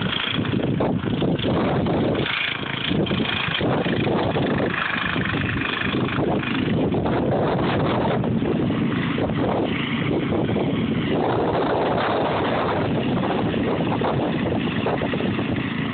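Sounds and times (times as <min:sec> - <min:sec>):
snow blower engine running: 0:00.0 - 0:15.9.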